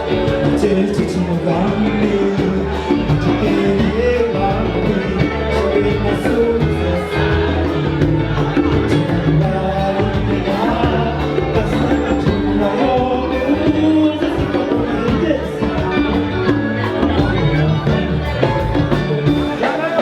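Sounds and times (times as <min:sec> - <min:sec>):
pulsing bass line: 0:00.0 - 0:19.8
band music: 0:00.0 - 0:20.0
person singing: 0:00.0 - 0:20.0.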